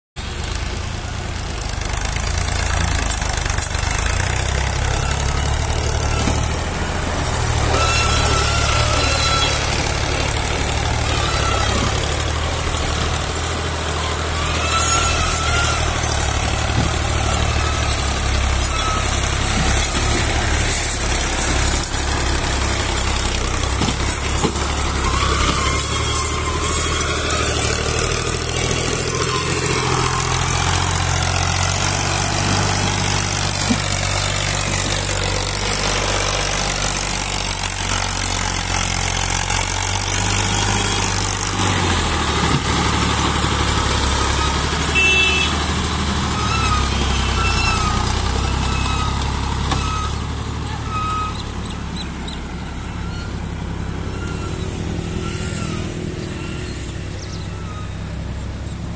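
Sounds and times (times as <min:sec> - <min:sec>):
tractor diesel engine running: 0:00.2 - 0:58.9.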